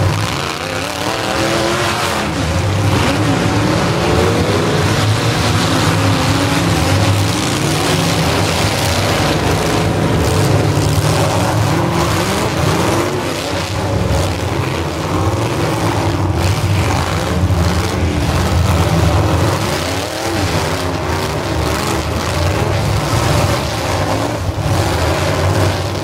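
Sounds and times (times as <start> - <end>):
car engines revving: 0.0 - 26.0
cars ramming: 0.0 - 26.0.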